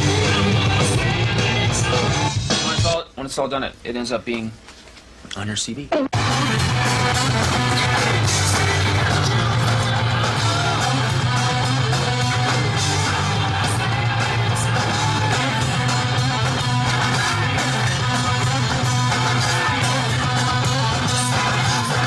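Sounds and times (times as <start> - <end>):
rock music with vocals: 0.0 - 3.0, 6.1 - 22.0.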